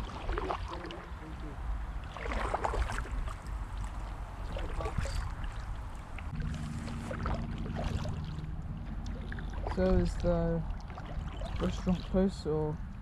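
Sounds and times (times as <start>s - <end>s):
kayak paddles splashing: 0.0s - 13.0s
low steady hum: 0.0s - 13.0s
low steady rumble: 0.0s - 13.0s.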